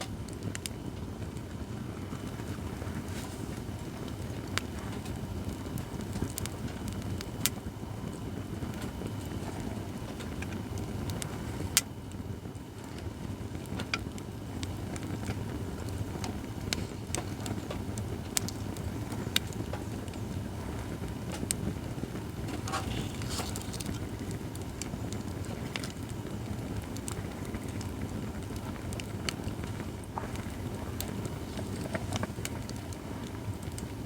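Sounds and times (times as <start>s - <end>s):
firewood crackling and popping: 0.0s - 34.0s
low rush of fire: 0.0s - 34.0s.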